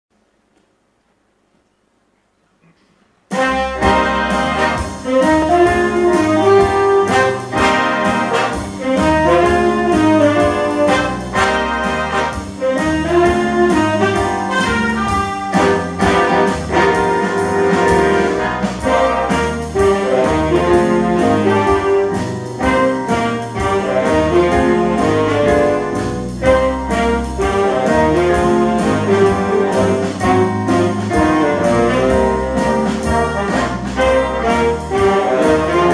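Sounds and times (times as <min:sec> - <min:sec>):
big band playing swing jazz: 0:03.2 - 0:35.9.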